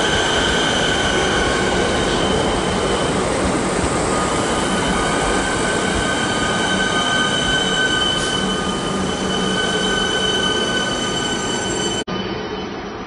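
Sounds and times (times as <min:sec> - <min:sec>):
train cars rumbling: 0:00.0 - 0:12.1
train wheels squealing: 0:00.0 - 0:13.0.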